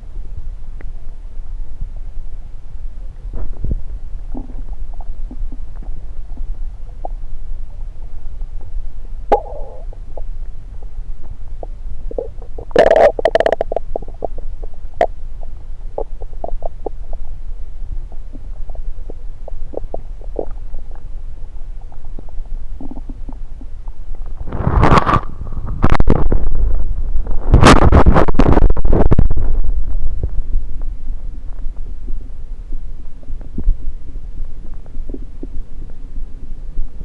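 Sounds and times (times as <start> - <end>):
low steady rumble: 0.0 - 37.0
stomach gurgling: 3.0 - 37.0.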